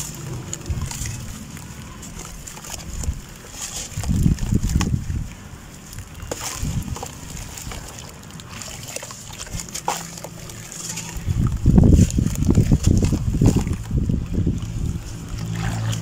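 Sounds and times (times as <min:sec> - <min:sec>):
dirt splashing into water: 0:00.0 - 0:16.0.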